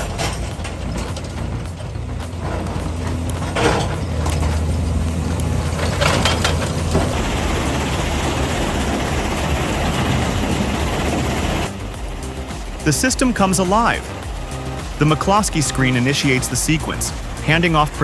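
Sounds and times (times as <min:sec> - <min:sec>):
diesel machinery drone: 0:00.0 - 0:18.0.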